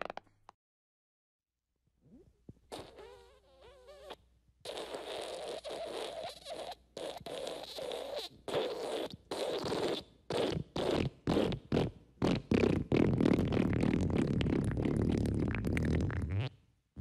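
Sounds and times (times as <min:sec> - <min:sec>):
squeaky fart: 0:00.0 - 0:00.4, 0:02.0 - 0:16.6
sputtering raspy fart: 0:02.7 - 0:16.5.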